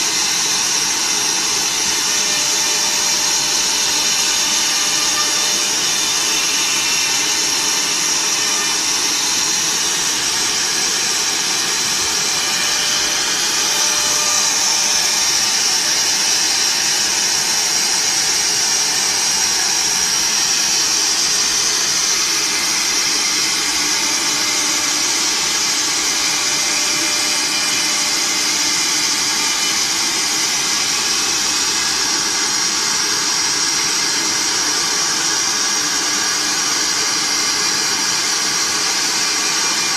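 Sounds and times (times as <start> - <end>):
cnc router spindles whining: 0.0 - 39.9.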